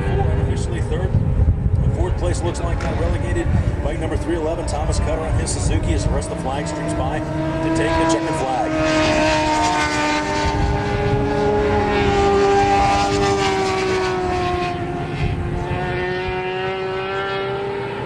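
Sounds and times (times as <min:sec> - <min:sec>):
racing motorcycle engines passing: 0:00.0 - 0:18.0.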